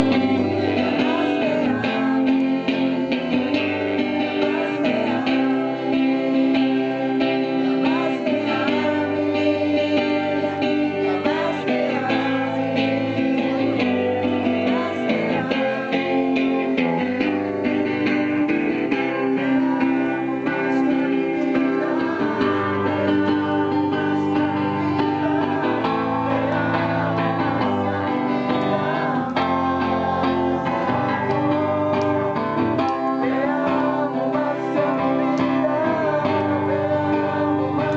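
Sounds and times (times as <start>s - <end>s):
guitar playing: 0.0s - 37.9s
person singing: 0.0s - 37.9s.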